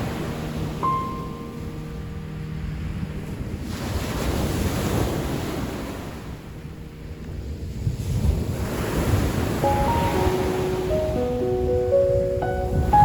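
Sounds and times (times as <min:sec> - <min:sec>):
ocean waves breaking on shore: 0:00.0 - 0:13.0
wind buffeting microphone: 0:00.0 - 0:13.0.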